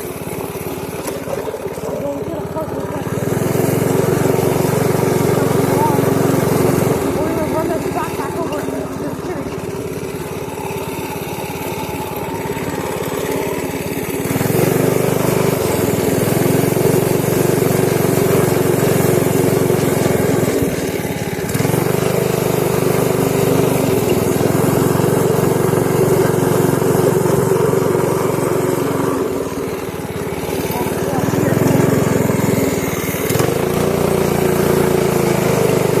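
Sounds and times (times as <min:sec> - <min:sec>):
pit bike engine running: 0:00.0 - 0:36.0.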